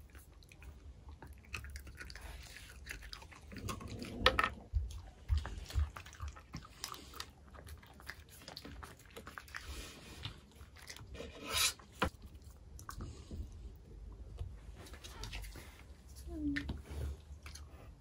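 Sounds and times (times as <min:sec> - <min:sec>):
dog chewing and crunching treat: 0:00.0 - 0:18.0.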